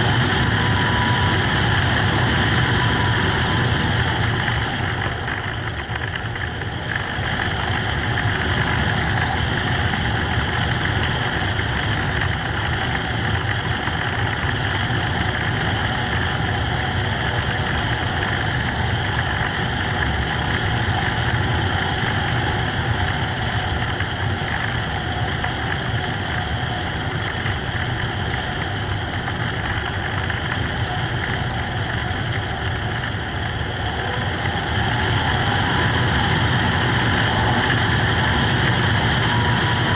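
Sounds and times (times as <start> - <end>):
constant high motor whine: 0.0 - 39.9
rush of air noise: 0.0 - 39.9.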